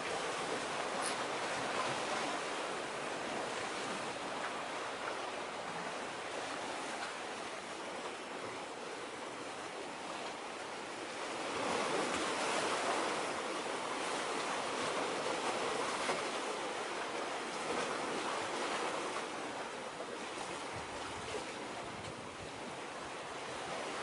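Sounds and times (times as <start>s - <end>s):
small waves washing on shore: 0.0s - 24.0s.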